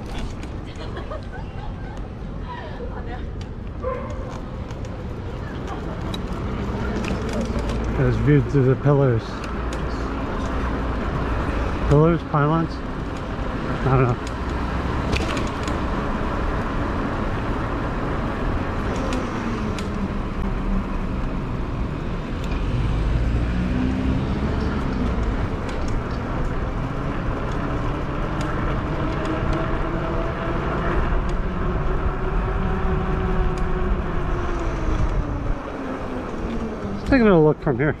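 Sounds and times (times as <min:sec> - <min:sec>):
bike riding rumble: 0:00.0 - 0:38.0.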